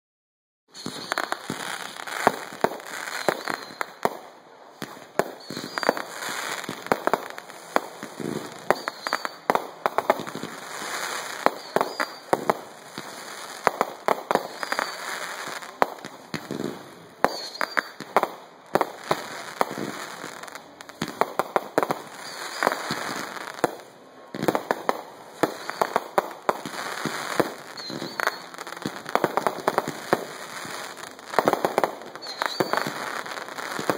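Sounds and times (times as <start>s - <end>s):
fireworks bangs and crackling: 0.7s - 33.9s.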